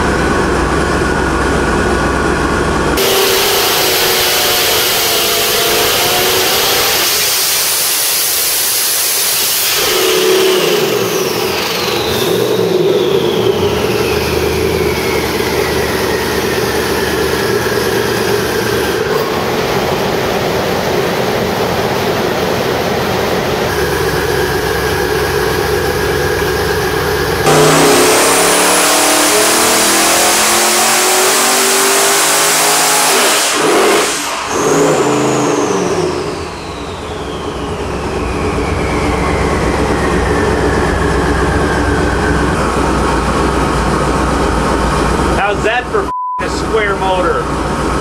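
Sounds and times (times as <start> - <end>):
engine revving: 0.0 - 45.7
high turbo whine: 0.0 - 48.0.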